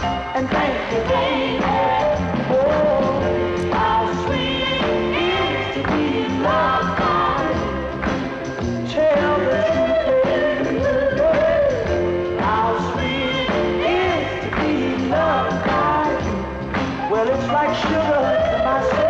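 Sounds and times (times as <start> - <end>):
pop-soul song with singer and band: 0.0 - 19.0.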